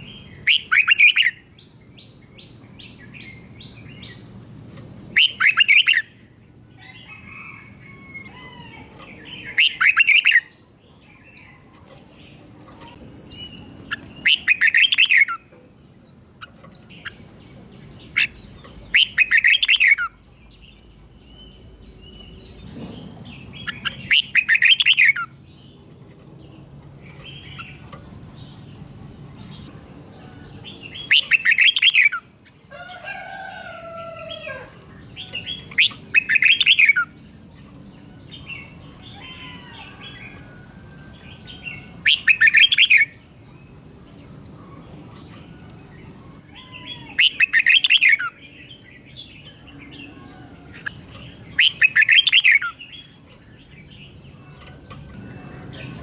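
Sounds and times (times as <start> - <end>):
bird singing loud song phrases: 0.0 - 4.4, 5.0 - 56.0.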